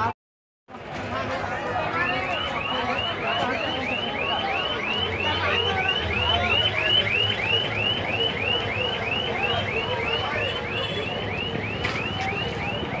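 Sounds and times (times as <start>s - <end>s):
faint crowd chatter: 0.7s - 13.0s.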